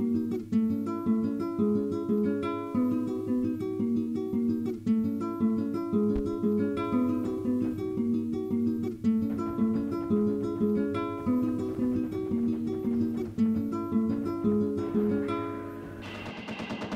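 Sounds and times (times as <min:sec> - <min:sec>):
guitar picking single notes: 0:00.0 - 0:16.0.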